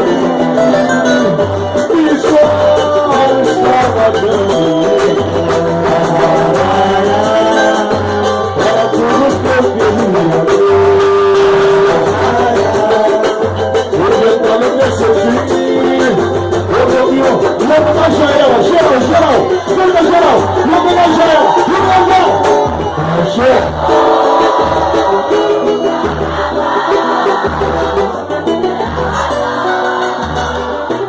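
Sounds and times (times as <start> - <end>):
person singing: 0.0 - 31.0
samba band playing: 0.0 - 31.0.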